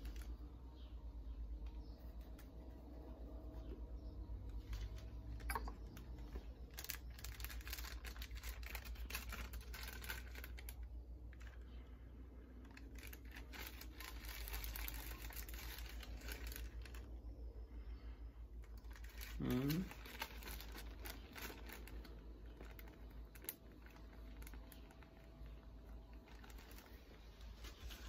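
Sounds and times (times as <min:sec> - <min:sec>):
plastic bag crinkling: 0:00.0 - 0:00.9, 0:03.4 - 0:17.4, 0:18.6 - 0:28.0
low steady hum: 0:00.0 - 0:28.0.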